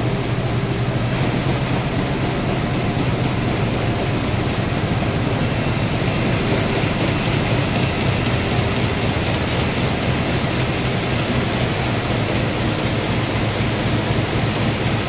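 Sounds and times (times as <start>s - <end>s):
printing machine running: 0.0s - 15.0s.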